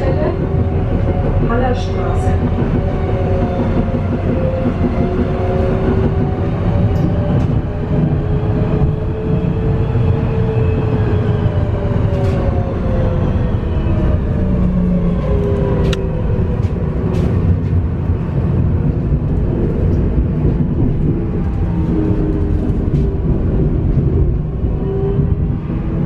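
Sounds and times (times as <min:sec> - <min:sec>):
tram rumbling on rails: 0:00.0 - 0:26.0.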